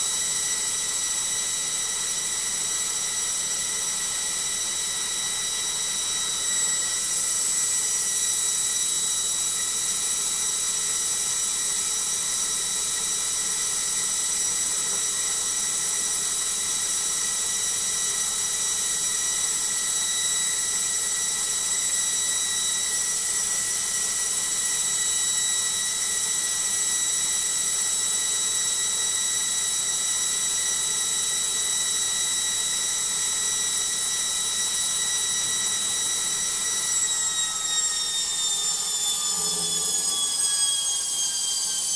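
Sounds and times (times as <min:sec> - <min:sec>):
washing machine spinning whine: 0:00.0 - 0:41.9.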